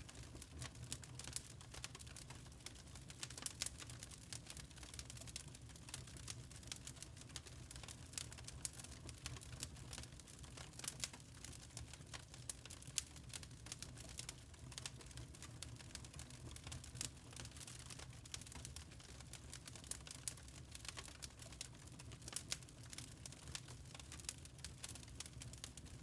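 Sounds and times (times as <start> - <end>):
charcoal crackling and popping: 0.0 - 26.0.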